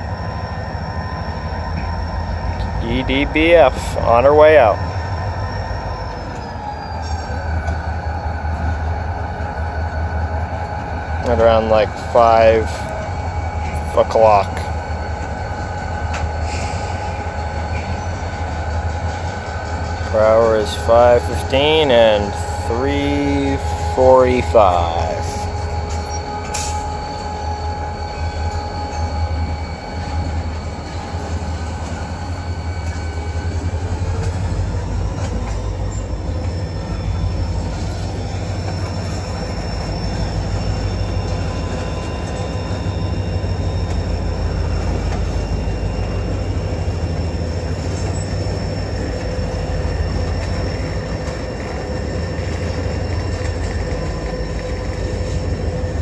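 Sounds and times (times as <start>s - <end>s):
high wheel squeal: 0.0s - 56.0s
train cars rumbling: 0.0s - 56.0s.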